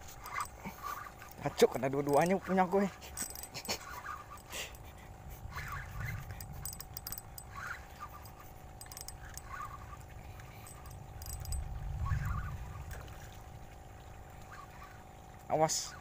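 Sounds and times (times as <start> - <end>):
fishing reels clicking and rattling: 0.0 - 13.1.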